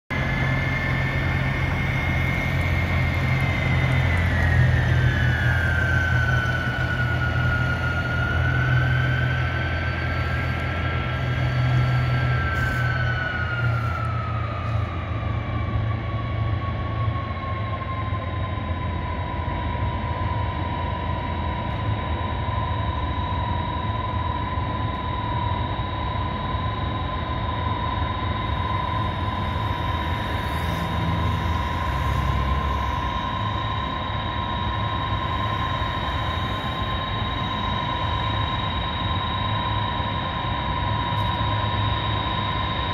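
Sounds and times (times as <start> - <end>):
jet engine high whine: 0.0 - 42.9
jet engines rumbling: 0.1 - 42.9.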